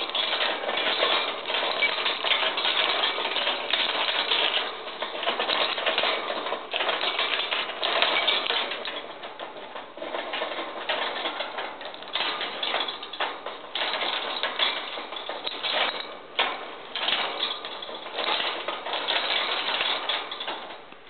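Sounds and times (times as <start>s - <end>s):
rapid clicking and rattling of toys: 0.0s - 21.0s.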